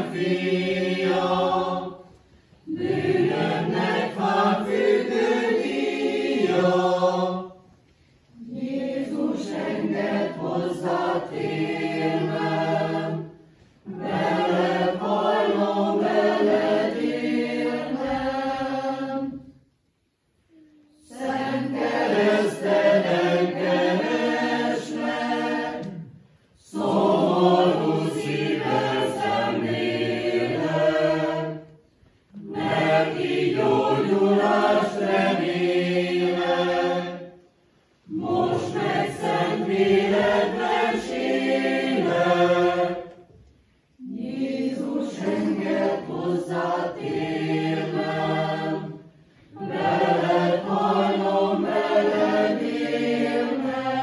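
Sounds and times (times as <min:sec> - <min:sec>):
choir singing unaccompanied: 0:00.0 - 0:19.7, 0:20.5 - 0:43.4, 0:44.0 - 0:54.0.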